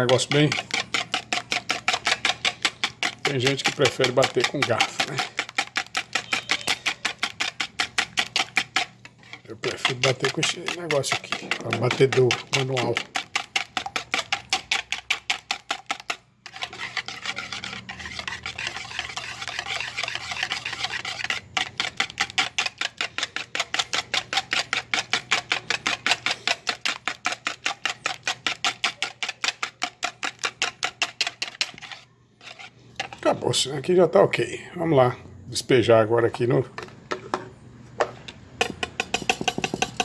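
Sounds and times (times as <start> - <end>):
whisk beating eggs in bowl: 0.0 - 33.5, 38.6 - 40.0.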